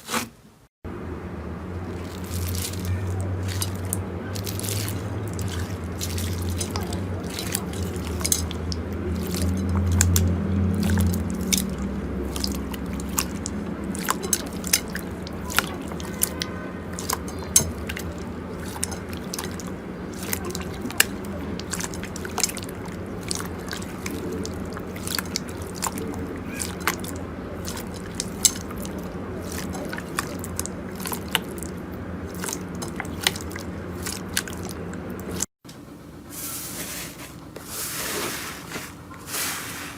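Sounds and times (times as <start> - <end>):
low steady hum: 0.9 - 39.5.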